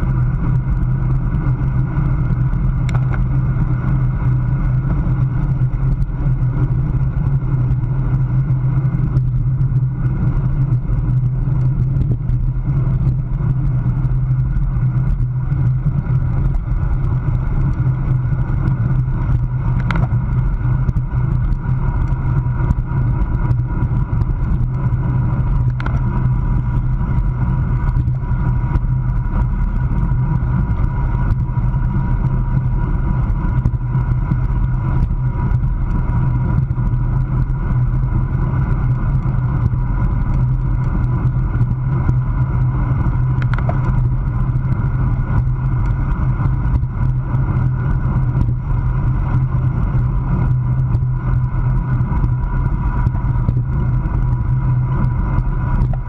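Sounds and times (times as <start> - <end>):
faint steady whine: 0.0 - 56.0
tyre and road rumble: 0.0 - 56.0
wind roaring over microphone: 0.0 - 56.0.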